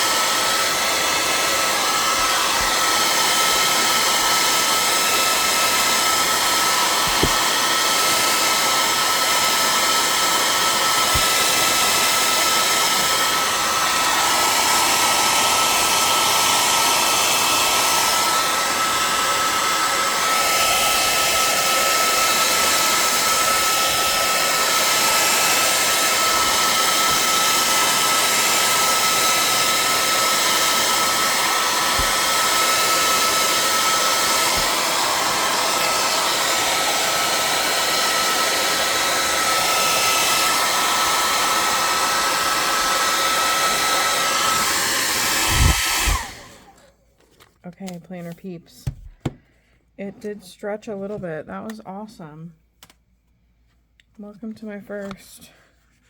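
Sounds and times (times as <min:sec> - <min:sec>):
hairdryer blowing with motor whine: 0:00.0 - 0:46.9.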